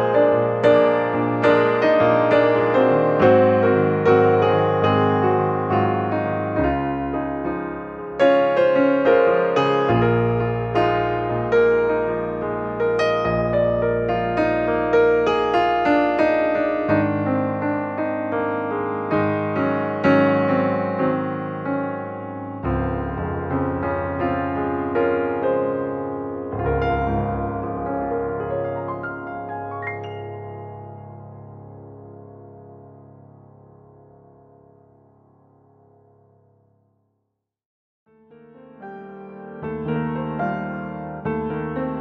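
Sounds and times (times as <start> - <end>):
slow piano music: 0.0 - 36.8, 38.1 - 42.0.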